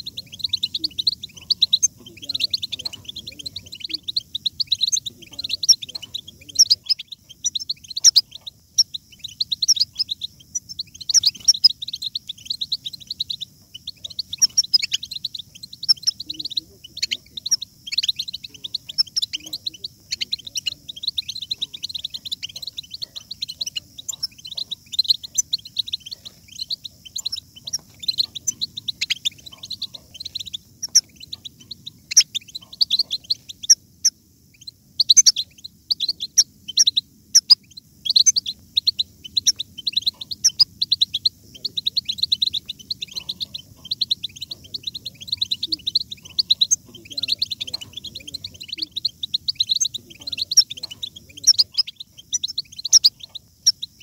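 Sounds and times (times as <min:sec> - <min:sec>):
finches twittering: 0:00.0 - 0:54.0.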